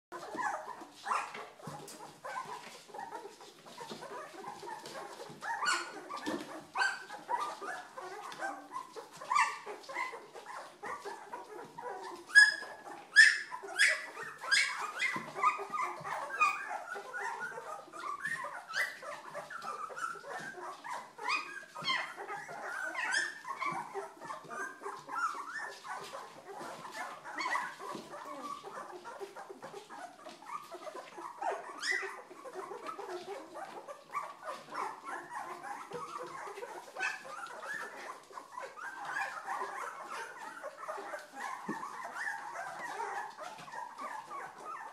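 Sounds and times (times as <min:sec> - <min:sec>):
puppies whimpering and yipping: 0:00.1 - 0:44.9
puppies yelping: 0:00.1 - 0:44.9.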